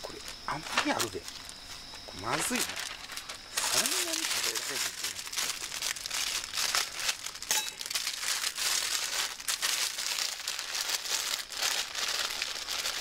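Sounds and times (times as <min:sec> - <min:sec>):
plastic bag crinkling: 0:00.1 - 0:13.0.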